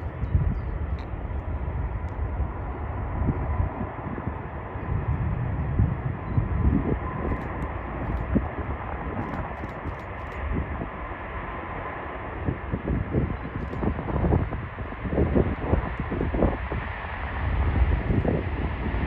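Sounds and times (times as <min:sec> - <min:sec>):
jet engines rushing: 0:00.0 - 0:19.0
wind buffeting microphone: 0:00.0 - 0:19.0.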